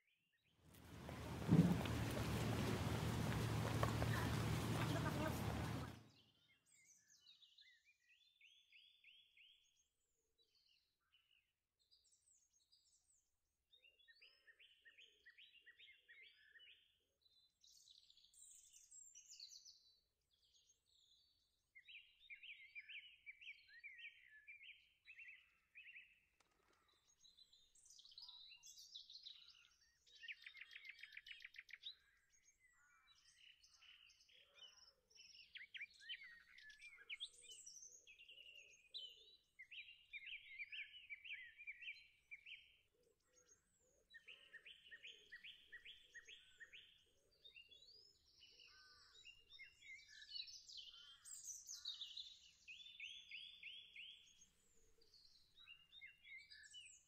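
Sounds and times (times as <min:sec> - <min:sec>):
songbirds chirping and trilling: 0:00.8 - 0:57.0.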